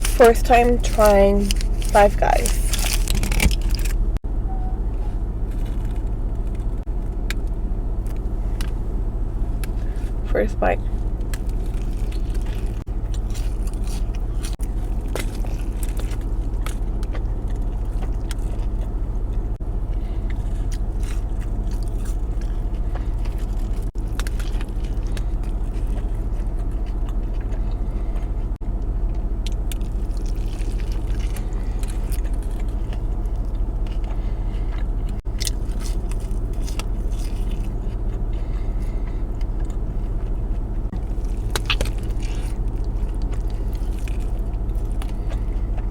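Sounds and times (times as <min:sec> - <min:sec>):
biting and chewing food: 0:00.0 - 0:04.2, 0:05.4 - 0:10.2, 0:10.9 - 0:45.9
low engine hum: 0:00.0 - 0:45.9.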